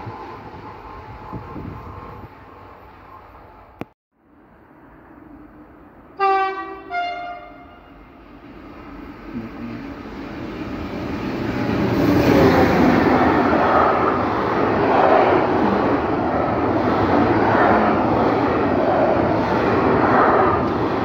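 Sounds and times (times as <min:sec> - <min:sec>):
freight train wheels on rails: 0:00.0 - 0:03.9, 0:04.7 - 0:21.0.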